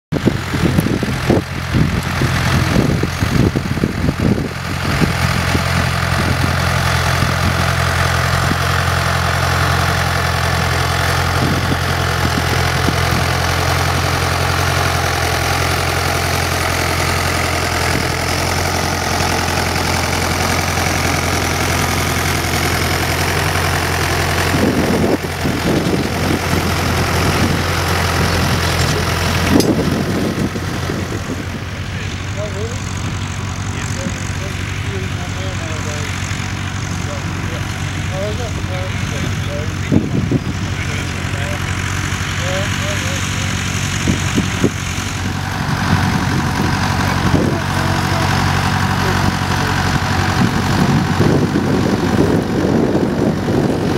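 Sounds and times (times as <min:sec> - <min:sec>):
tractor engine running under load: 0:00.1 - 0:53.9
uneven low rumbling: 0:00.1 - 0:53.9.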